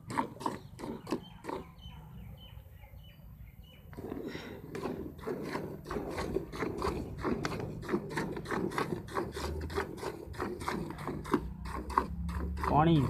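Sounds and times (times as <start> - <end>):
milk squirting into a pail: 0.0 - 1.8, 4.0 - 13.0.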